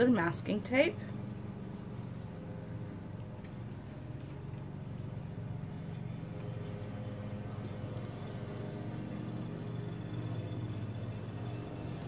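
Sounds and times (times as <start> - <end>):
faint steady tones: 0.0 - 12.0
low machine hum: 0.0 - 12.0.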